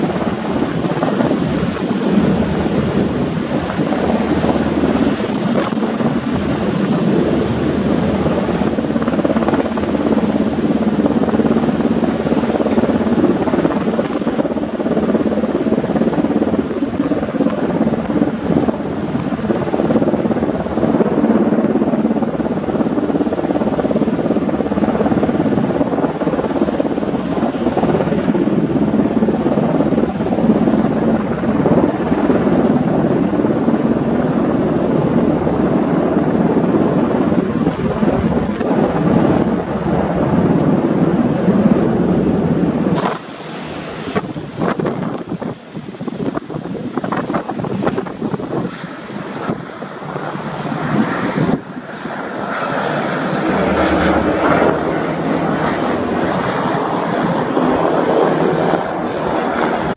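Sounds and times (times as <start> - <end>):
helicopter rotor and turbine noise: 0.0 - 59.9.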